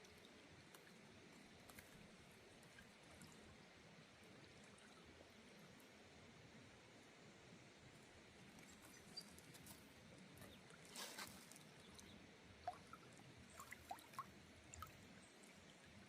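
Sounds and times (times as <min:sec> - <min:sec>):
faint outdoor background hiss: 0:00.0 - 0:16.0.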